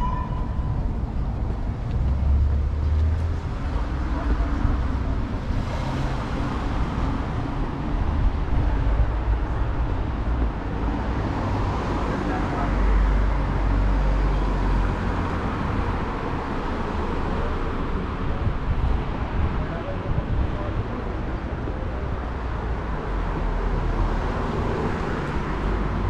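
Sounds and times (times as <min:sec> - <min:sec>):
traffic going by: 0:00.0 - 0:26.0.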